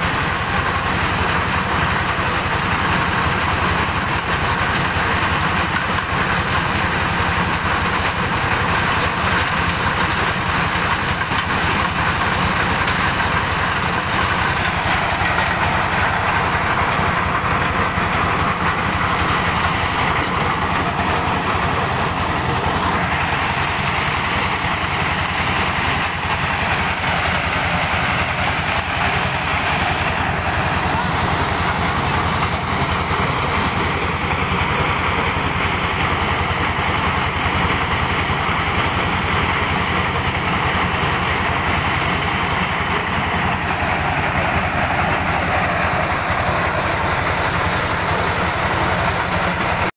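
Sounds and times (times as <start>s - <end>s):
corn sheller machine running: 0.0s - 49.9s
diesel engine throbbing: 0.0s - 49.9s.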